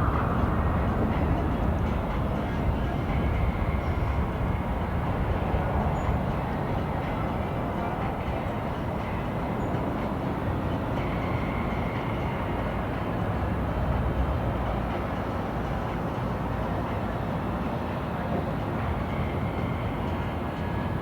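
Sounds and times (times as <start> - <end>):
low rumble of city traffic: 0.0 - 21.0.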